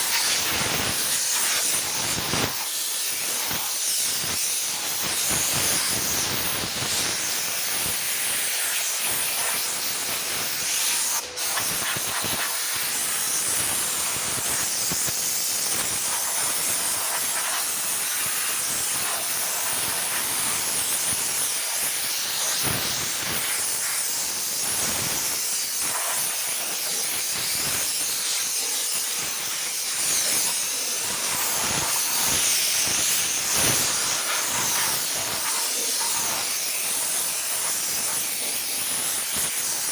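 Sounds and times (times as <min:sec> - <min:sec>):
power sander hissing: 0:00.0 - 0:39.9.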